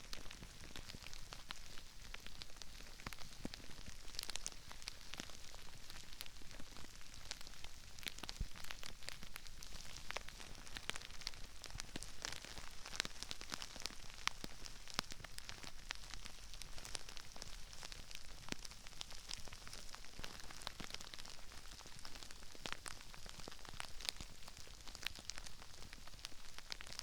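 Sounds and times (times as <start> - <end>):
rice grains pattering and crackling: 0.0 - 27.0.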